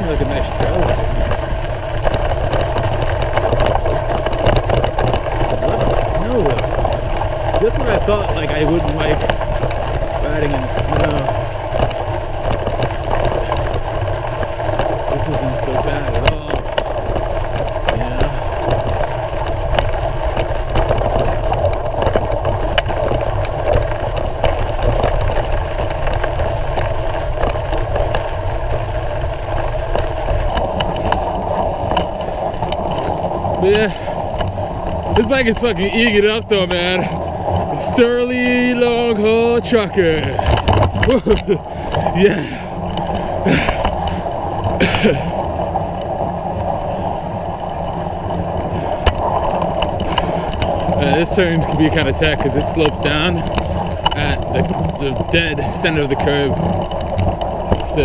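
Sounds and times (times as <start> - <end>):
bike rolling through snow: 0.0 - 58.0.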